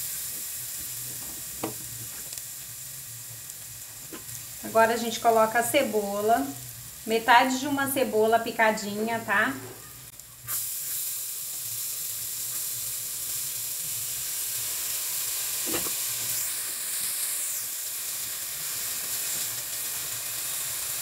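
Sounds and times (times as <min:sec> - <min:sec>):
onion sizzling in oil: 0:00.0 - 0:21.0.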